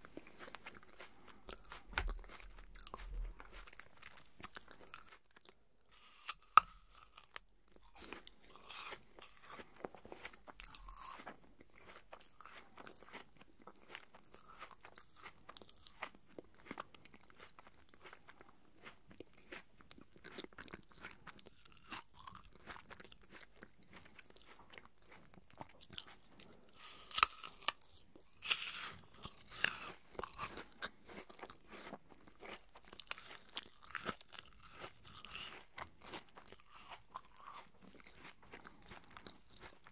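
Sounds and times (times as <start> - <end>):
crunching apple: 0.1 - 39.9.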